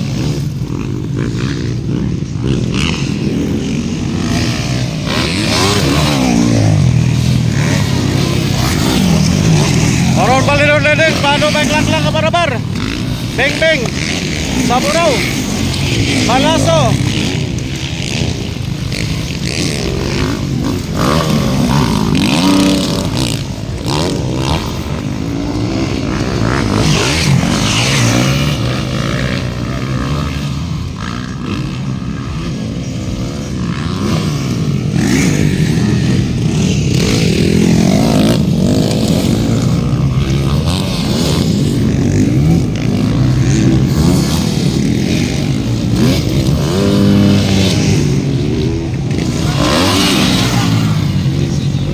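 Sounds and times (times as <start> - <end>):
motocross motorcycles revving: 0.0 - 51.9.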